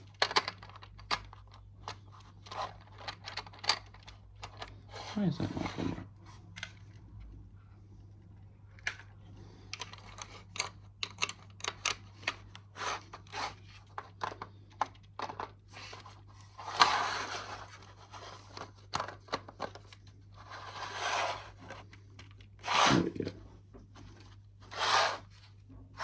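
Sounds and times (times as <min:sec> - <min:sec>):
plastic bricks clicking and scraping: 0:00.0 - 0:07.0, 0:08.7 - 0:22.6.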